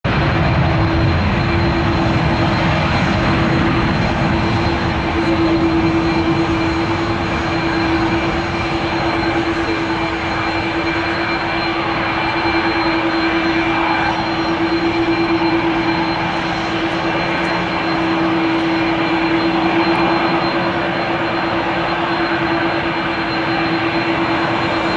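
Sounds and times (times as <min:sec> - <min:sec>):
jet engines running: 0:00.1 - 0:24.9.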